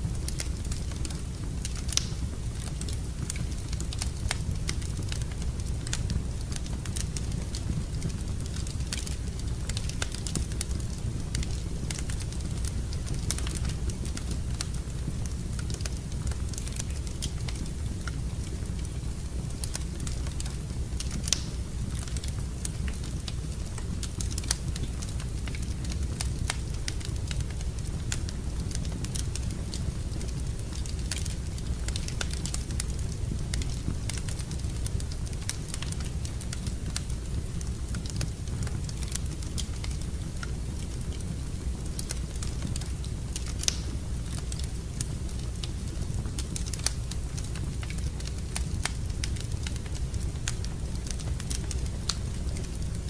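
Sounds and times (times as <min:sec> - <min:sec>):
fire crackling and popping: 0:00.0 - 0:53.0
low rumble of fire: 0:00.0 - 0:53.0.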